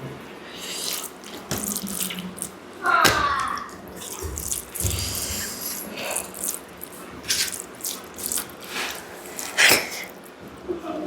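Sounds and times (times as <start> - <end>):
wet eating sounds: 0.4 - 10.4.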